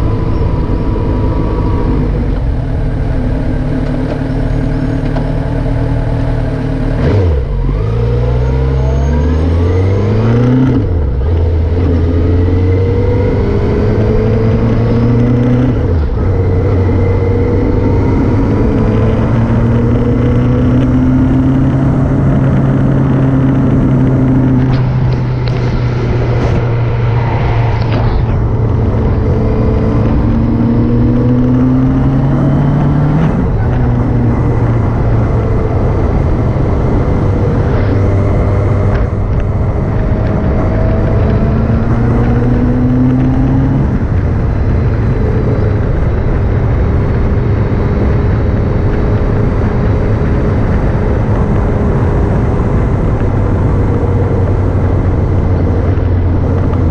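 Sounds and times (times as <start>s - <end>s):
motorcycle engine: 0.0s - 56.9s.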